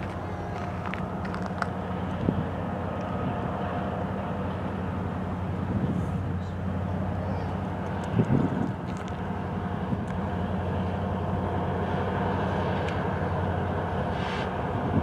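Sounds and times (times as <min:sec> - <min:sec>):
diesel locomotive low hum: 0:00.0 - 0:15.0.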